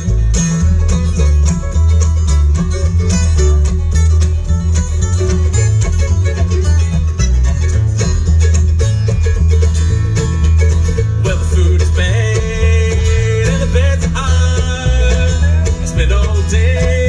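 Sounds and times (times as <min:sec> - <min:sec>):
mandolin: 0:00.0 - 0:17.0
resonator guitar: 0:00.0 - 0:17.0
strummed acoustic guitar: 0:00.0 - 0:17.0
upright bass walking: 0:00.0 - 0:17.0.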